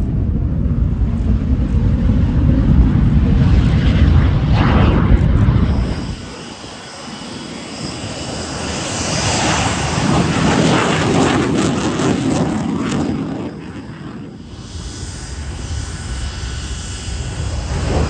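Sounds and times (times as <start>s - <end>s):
aircraft flying past: 0.0s - 18.0s.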